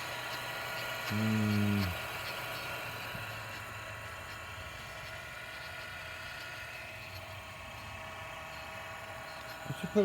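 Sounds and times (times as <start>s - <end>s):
teletype motor humming: 0.0s - 10.0s.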